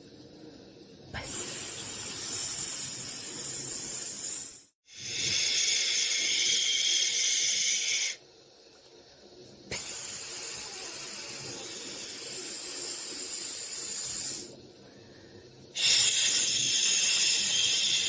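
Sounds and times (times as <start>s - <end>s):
white noise hiss: 0.0s - 18.0s.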